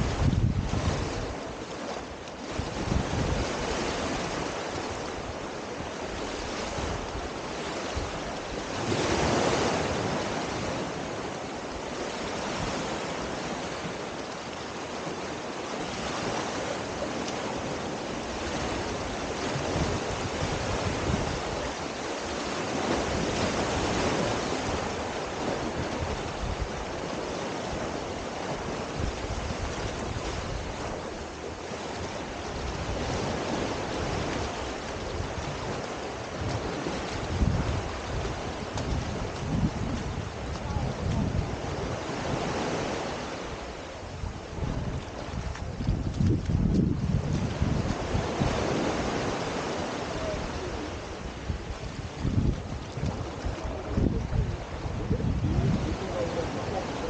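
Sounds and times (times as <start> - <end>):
small waves on sandy shore: 0.0 - 57.0
wind on microphone: 0.0 - 57.0.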